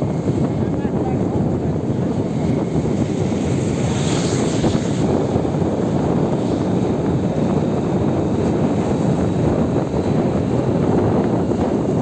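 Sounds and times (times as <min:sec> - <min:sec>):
road noise on wet road: 0:00.0 - 0:12.0
wind rumble on microphone: 0:00.0 - 0:12.0.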